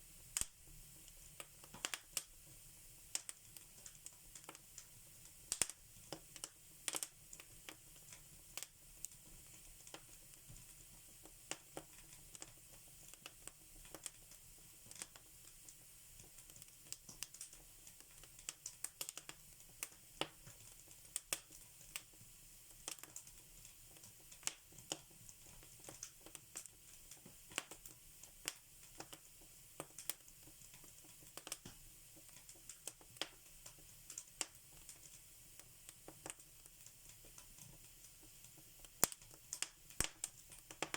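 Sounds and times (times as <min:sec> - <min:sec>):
faint steady hiss: 0:00.0 - 0:40.9
wood fire crackling: 0:00.0 - 0:40.9.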